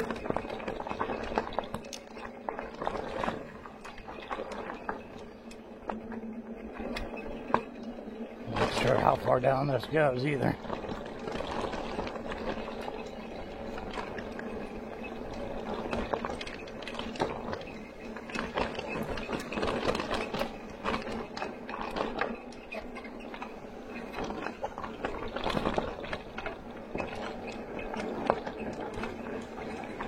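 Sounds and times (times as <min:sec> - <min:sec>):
wheels crunching on gravel: 0:00.0 - 0:30.0.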